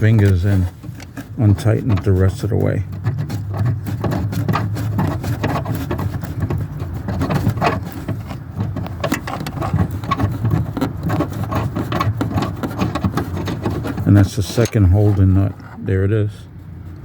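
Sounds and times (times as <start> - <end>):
hands rubbing and scraping trim: 0.0 - 17.0.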